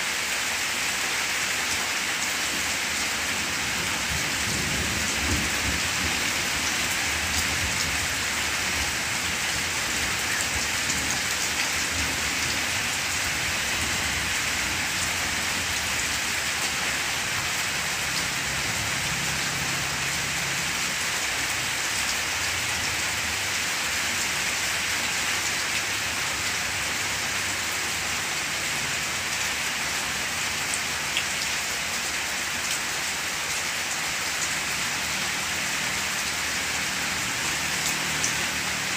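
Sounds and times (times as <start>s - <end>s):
rain hissing: 0.0s - 38.9s
raindrops hitting leaves: 0.0s - 38.9s.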